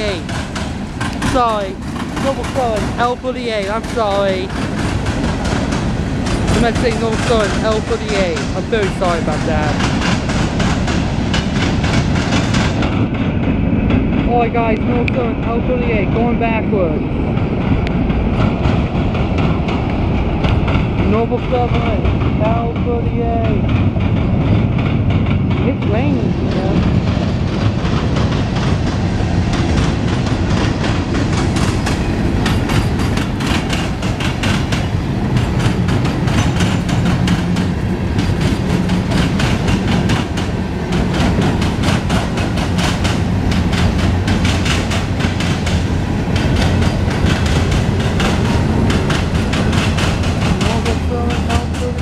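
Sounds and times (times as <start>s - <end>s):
low train rumble: 0.0s - 52.0s
wheels clacking over rail joints: 0.0s - 52.0s.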